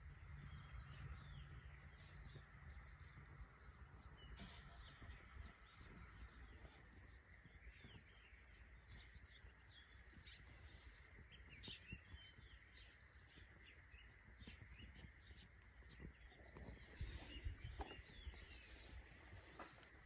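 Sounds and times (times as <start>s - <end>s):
faint bird chirps: 0.4s - 20.0s.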